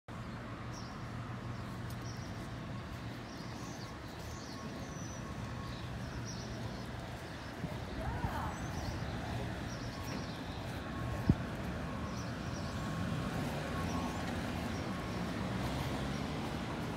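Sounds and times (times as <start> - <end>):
low street hum: 0.1 - 16.9.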